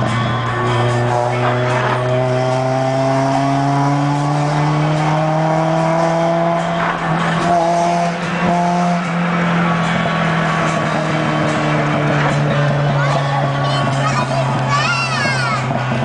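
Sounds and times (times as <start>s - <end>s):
car engine and loud exhaust: 0.0s - 16.0s.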